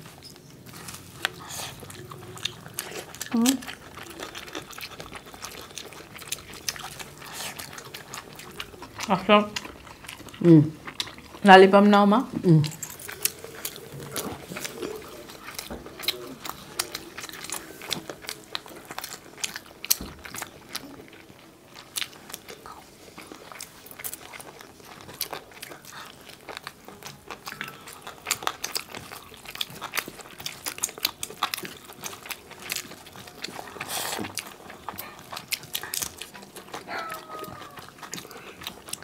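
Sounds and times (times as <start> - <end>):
people chewing and biting: 0.0 - 11.5, 12.3 - 39.0.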